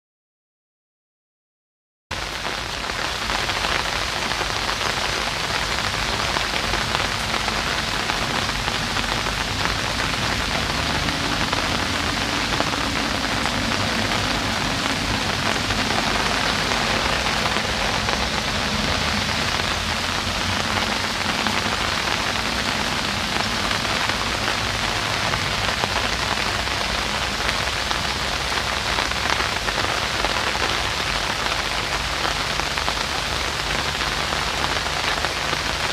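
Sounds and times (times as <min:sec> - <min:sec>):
rain on reeds and wooden deck: 0:02.1 - 0:35.9.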